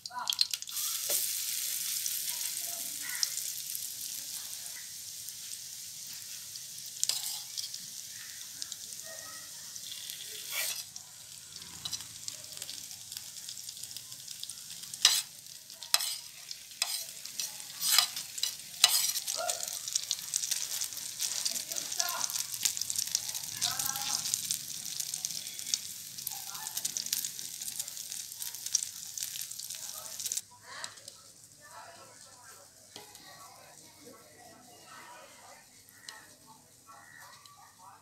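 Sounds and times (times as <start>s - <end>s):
bread sizzling in oil: 0.0s - 38.0s.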